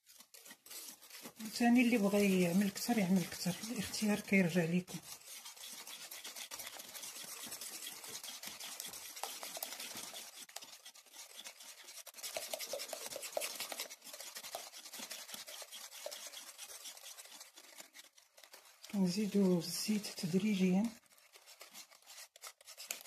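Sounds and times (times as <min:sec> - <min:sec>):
whisk beating in a bowl: 0:00.0 - 0:23.0.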